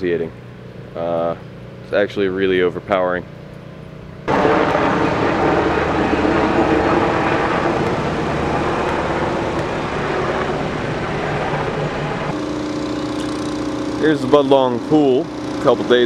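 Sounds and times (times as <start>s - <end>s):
aircraft engine passing overhead: 0.0s - 16.0s.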